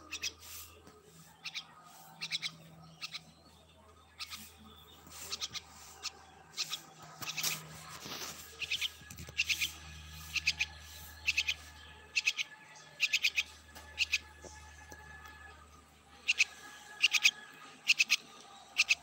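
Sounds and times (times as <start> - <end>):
young bird chirping: 0.0 - 0.6, 1.3 - 14.3, 16.2 - 19.0.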